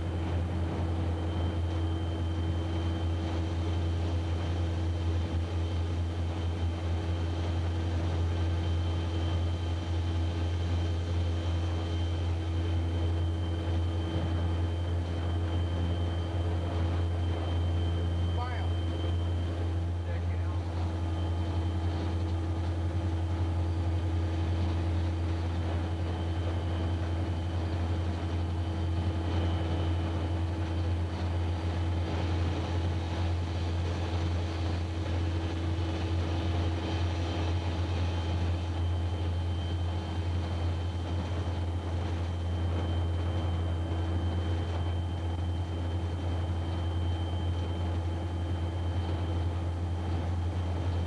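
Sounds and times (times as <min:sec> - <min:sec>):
diesel locomotive engine drone: 0:00.0 - 0:51.0.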